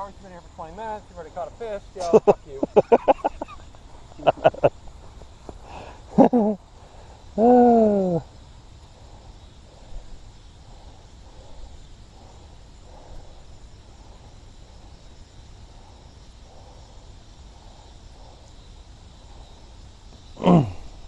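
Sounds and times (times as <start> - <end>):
faint insect chirring: 0.0 - 21.0.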